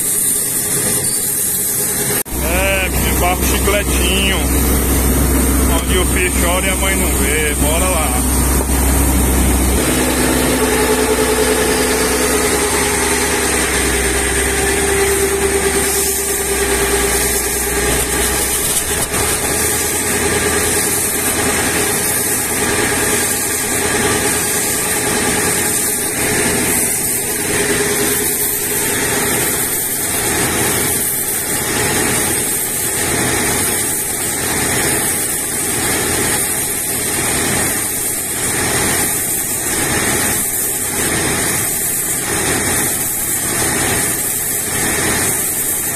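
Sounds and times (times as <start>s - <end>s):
drilling rig engine running: 0.0s - 45.9s
pulsing drill: 0.0s - 45.9s
whine: 0.0s - 45.9s.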